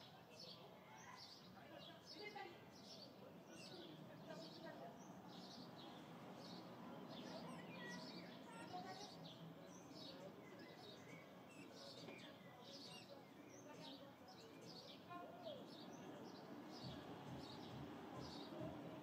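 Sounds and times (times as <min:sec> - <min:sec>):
sparrows chirping: 0:00.0 - 0:19.0
town background hum: 0:01.6 - 0:19.0.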